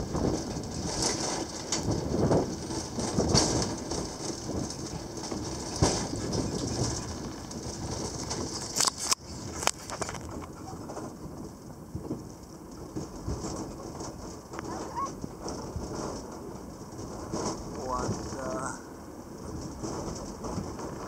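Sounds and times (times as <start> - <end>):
funicular car rattling rumble: 0.0 - 21.0.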